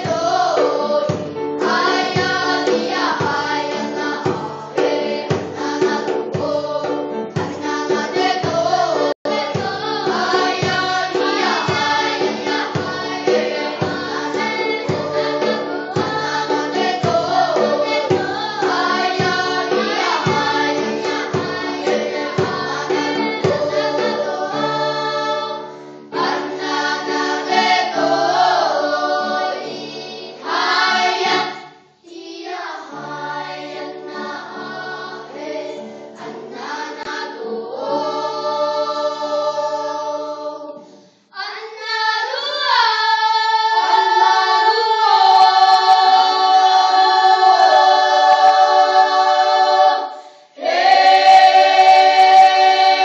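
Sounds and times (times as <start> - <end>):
children's choir singing unaccompanied: 0.0 - 53.0.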